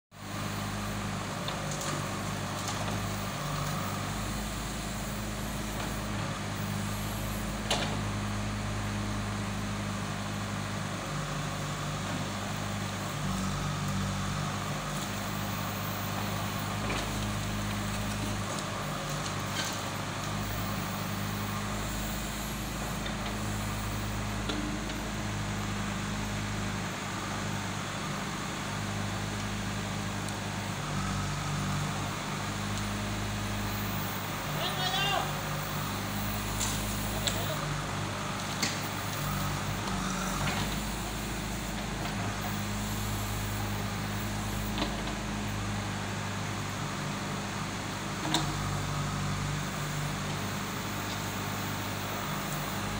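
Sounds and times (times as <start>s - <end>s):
diesel engine running: 0.1s - 52.9s
backhoe digging and dumping soil: 0.2s - 52.9s.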